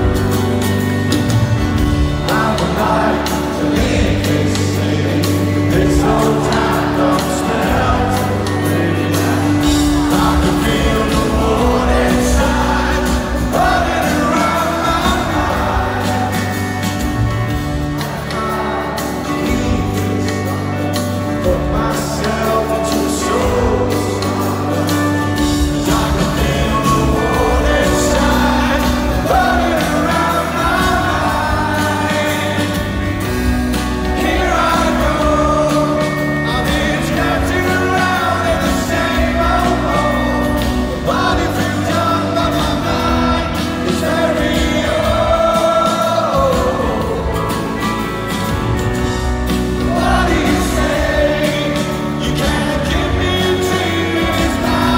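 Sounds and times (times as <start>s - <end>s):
live band playing: 0.0s - 54.9s
person singing: 0.0s - 54.9s.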